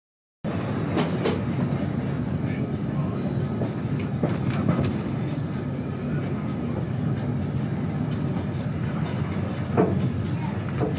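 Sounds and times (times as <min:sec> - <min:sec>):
train rumbling on track: 0:00.5 - 0:10.9.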